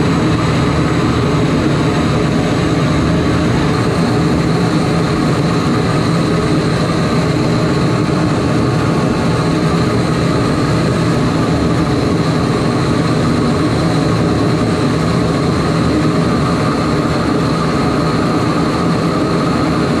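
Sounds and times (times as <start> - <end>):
combustor flame rushing: 0.0 - 20.0.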